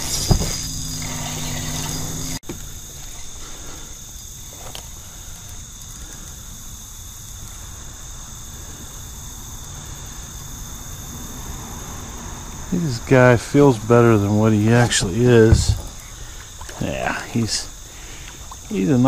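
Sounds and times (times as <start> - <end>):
crickets and insects trilling: 0.0 - 19.0.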